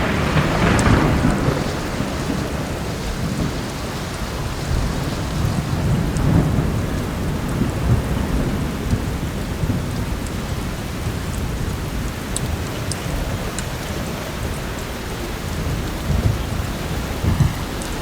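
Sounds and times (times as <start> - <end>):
heavy rain: 0.0 - 18.0
rolling thunder: 0.0 - 18.0.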